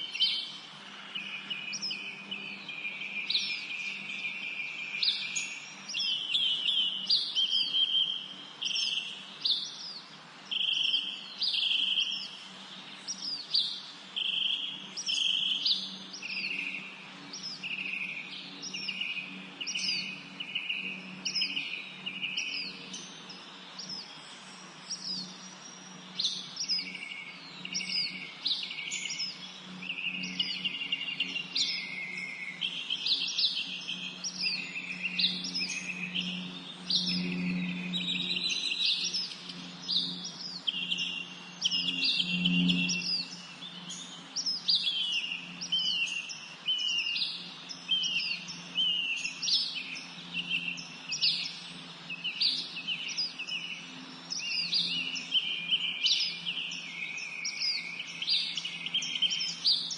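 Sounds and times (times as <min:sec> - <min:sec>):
songbirds singing and chirping: 0:00.0 - 0:59.9
steady low hum: 0:08.1 - 0:59.9.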